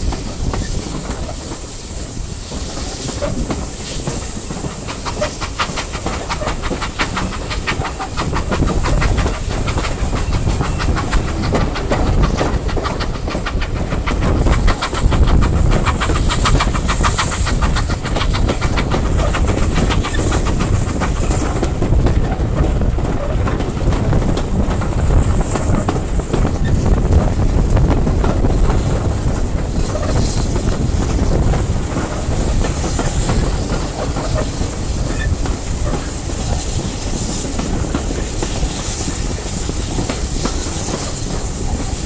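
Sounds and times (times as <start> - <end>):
train running noise and wind: 0.0 - 42.0
train wheels clattering over track: 0.0 - 42.0.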